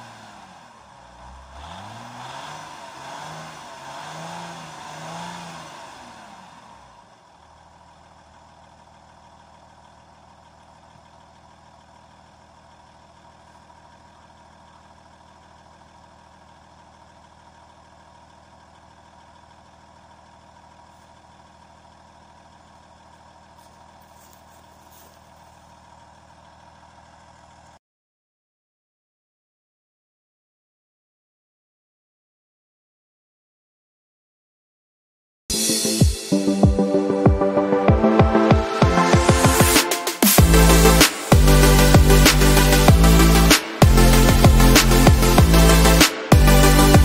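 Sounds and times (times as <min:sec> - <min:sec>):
diesel engine idling: 0:00.0 - 0:27.8, 0:36.4 - 0:47.0.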